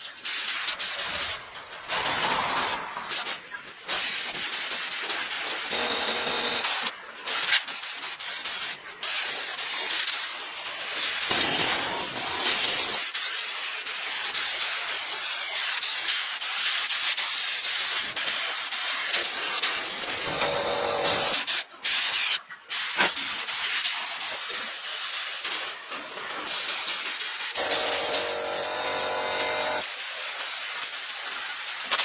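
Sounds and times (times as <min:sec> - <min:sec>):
hissing spray: 0:00.1 - 0:32.0.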